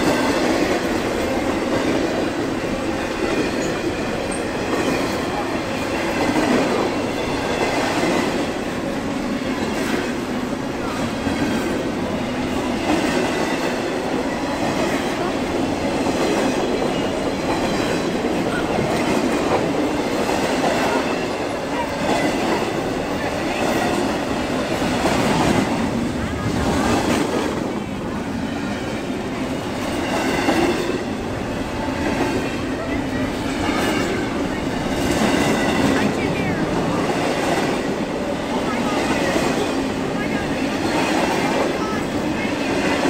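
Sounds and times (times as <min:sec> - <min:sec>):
freight train wheels rumbling on rails: 0:00.0 - 0:43.0.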